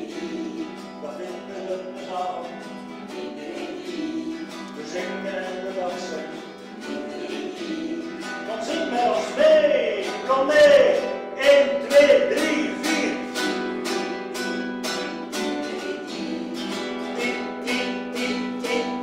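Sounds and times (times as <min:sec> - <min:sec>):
acoustic guitar strumming: 0:00.0 - 0:19.0
group of people singing: 0:00.0 - 0:19.0.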